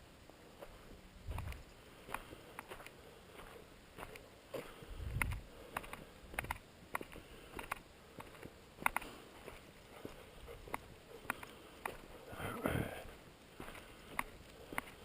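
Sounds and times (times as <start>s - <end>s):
footsteps walking: 0.3s - 12.3s, 13.0s - 15.0s.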